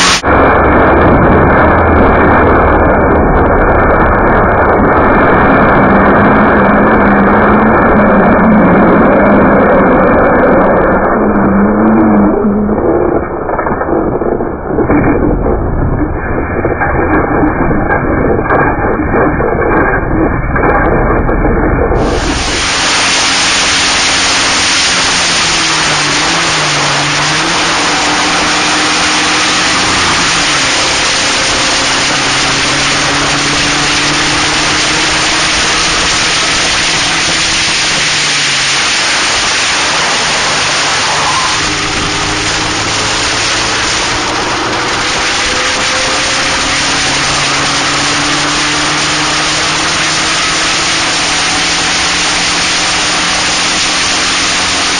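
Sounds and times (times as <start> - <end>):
race car engine: 0.0 - 54.9
wind rush over microphone: 0.0 - 54.9.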